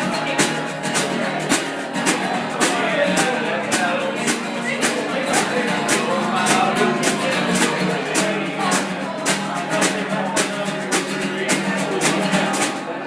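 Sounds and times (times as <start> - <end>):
steady beat: 0.0 - 12.8
strummed guitar: 0.0 - 13.0.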